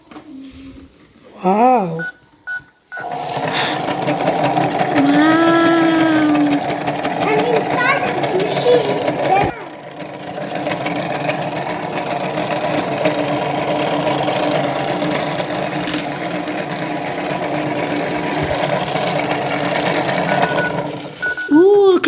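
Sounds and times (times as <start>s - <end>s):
small electric motor humming: 3.0s - 21.2s
rattle of drum contents: 3.2s - 21.5s.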